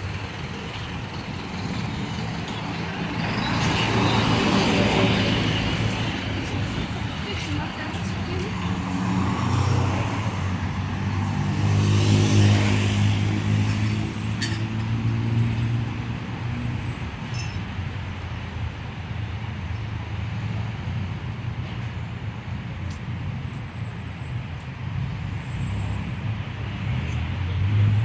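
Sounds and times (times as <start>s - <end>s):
street traffic: 0.0s - 28.0s
vehicle engine running nearby: 0.0s - 28.0s.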